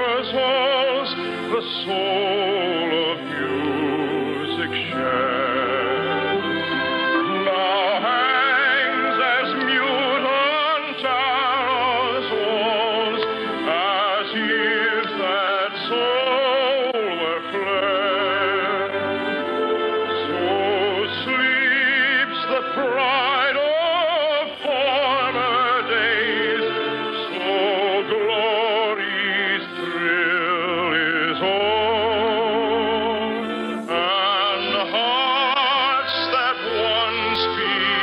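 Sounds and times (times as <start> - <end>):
operatic solo singing: 0.0 - 38.0
orchestral accompaniment: 0.0 - 38.0.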